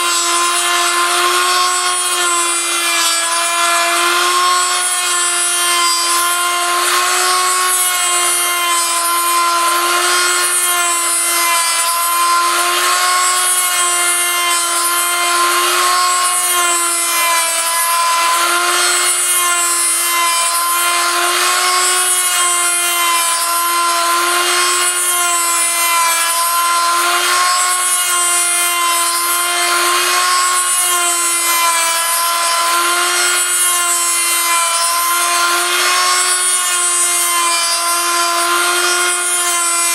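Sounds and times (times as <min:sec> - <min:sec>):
bit rasping wood: 0:00.0 - 0:39.9
rotary tool whining: 0:00.0 - 0:39.9.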